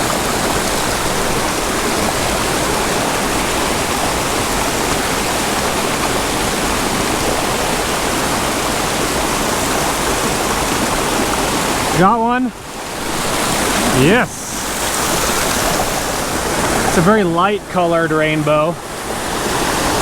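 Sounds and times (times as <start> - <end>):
creek rushing and splashing: 0.0 - 20.0.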